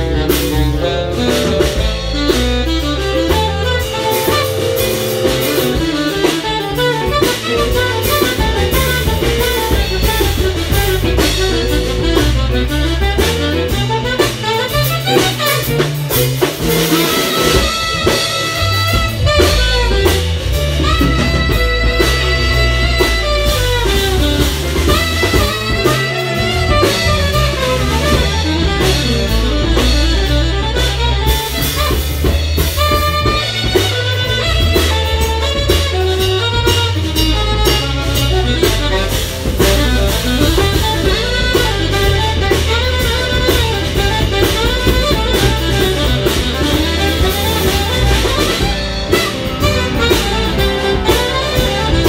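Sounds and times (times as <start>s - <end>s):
bass guitar: 0.0s - 52.0s
drum kit: 0.0s - 52.0s
electric guitar: 0.0s - 52.0s
keyboard: 0.0s - 52.0s
saxophone: 0.0s - 52.0s.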